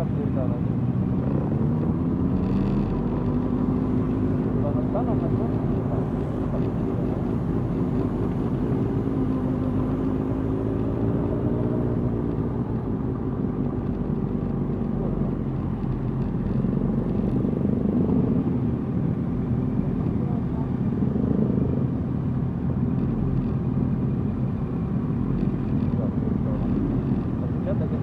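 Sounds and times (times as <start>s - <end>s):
motorcycle engines running: 0.0s - 28.0s.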